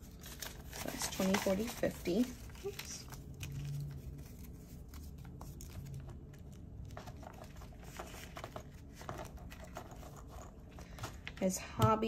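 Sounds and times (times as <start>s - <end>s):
paper banknotes rustling: 0.0s - 11.5s.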